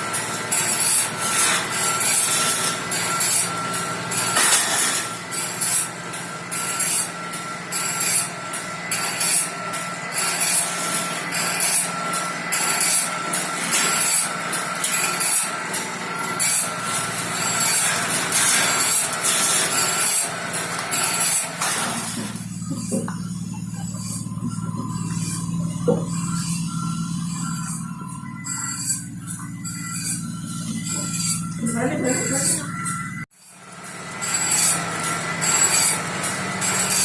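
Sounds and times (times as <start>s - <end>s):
band saw blade rasping: 0.0s - 37.0s
machine hum: 0.0s - 37.0s.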